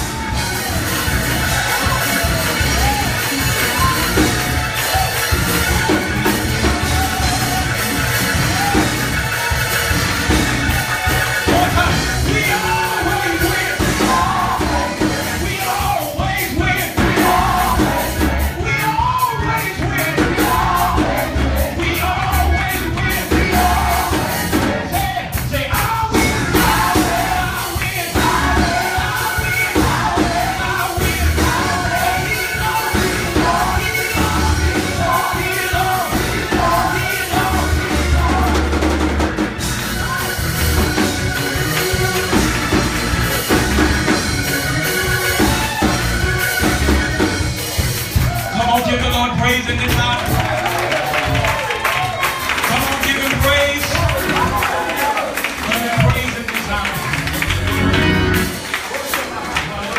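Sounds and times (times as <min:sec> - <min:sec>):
voices singing: 0:00.0 - 0:48.0, 0:48.6 - 0:58.7
band with bass and drum beat: 0:00.0 - 0:59.9.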